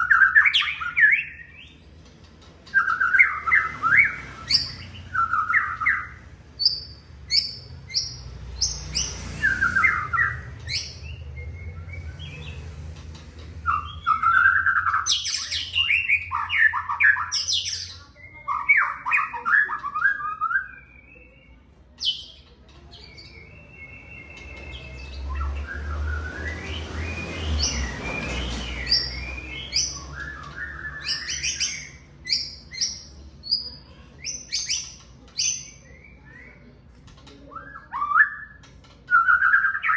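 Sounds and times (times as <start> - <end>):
bird whistling song: 0.0 - 1.8, 2.7 - 12.6, 13.6 - 22.4, 23.0 - 36.8, 37.5 - 39.9.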